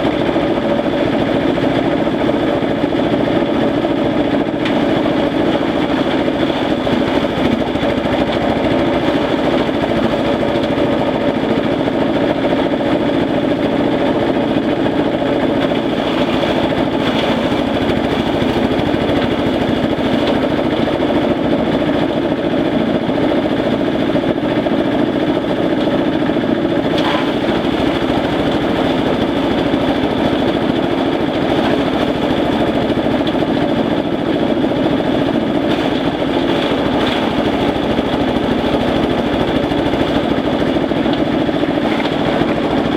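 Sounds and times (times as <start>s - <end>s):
shredder machine droning: 0.0s - 42.9s.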